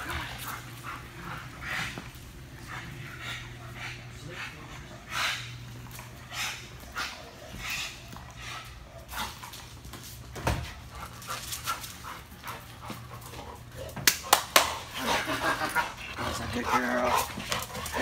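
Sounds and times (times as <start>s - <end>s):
dog panting: 0.0s - 9.5s, 10.7s - 14.0s, 14.7s - 18.0s.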